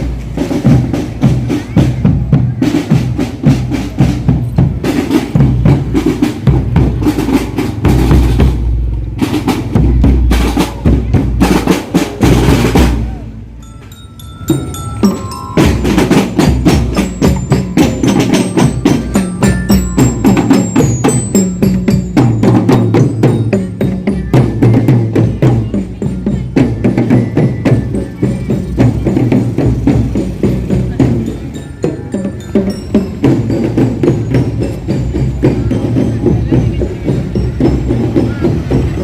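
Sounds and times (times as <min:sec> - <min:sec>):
music with fast dense percussion: 0:00.0 - 0:39.0.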